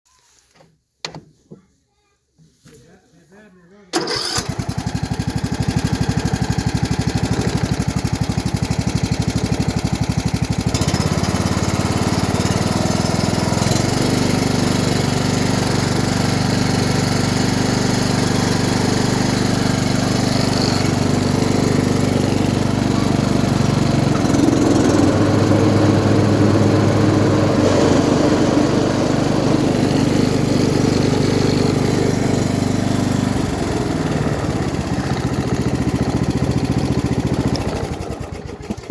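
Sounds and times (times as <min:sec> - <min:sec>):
mower engine running: 0:04.0 - 0:38.9.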